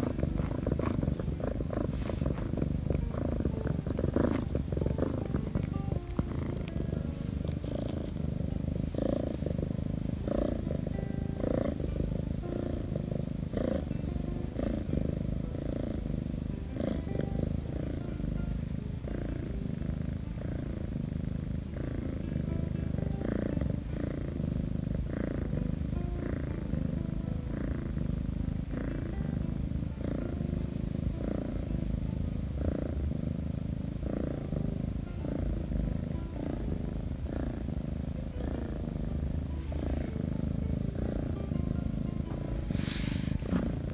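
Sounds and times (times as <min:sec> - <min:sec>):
kitten purring: 0:00.0 - 0:43.9.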